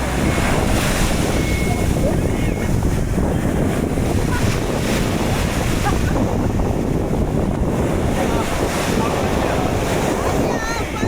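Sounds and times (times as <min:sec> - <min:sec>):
waves breaking on beach: 0:00.0 - 0:11.0
wind buffeting microphone: 0:00.0 - 0:11.0.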